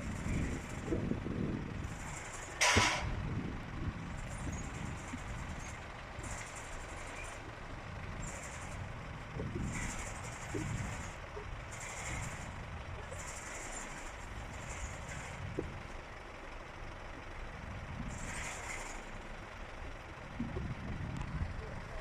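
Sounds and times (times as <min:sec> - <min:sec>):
farm machinery running: 0:00.0 - 0:22.0.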